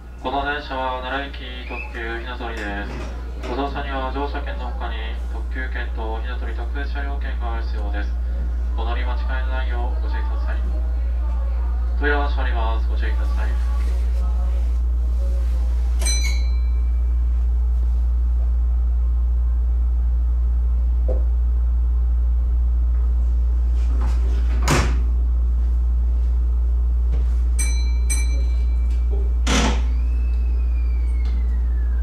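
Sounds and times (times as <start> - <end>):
train interior hum: 0.0 - 32.0.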